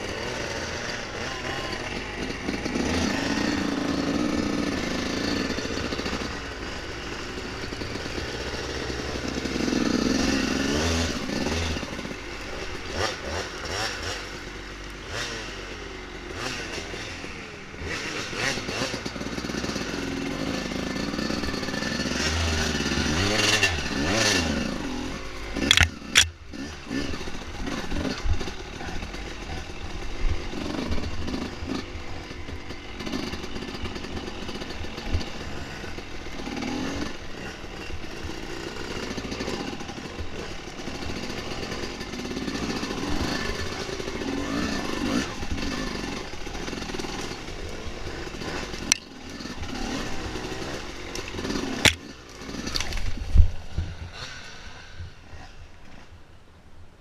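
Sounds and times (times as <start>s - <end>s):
dirt bike engine revving: 0.0s - 56.2s.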